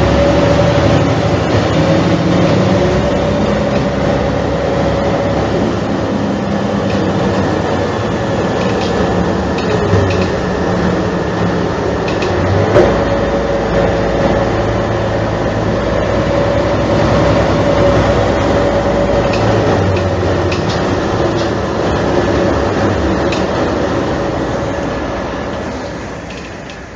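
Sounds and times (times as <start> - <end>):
bus diesel engine idling: 0.0 - 26.9
steady whine: 0.0 - 26.9.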